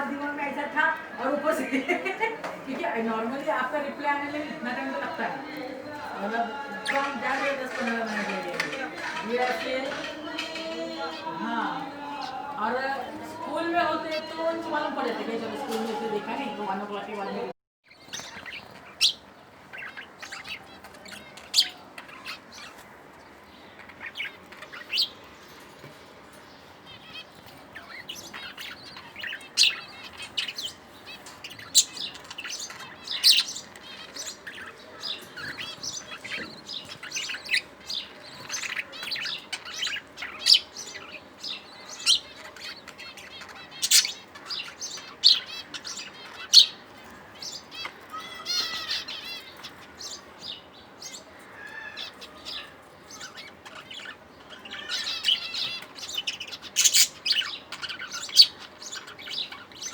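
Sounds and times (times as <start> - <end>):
budgerigars chirping: 3.0 - 12.3, 17.9 - 22.8, 23.6 - 25.4, 26.5 - 59.9.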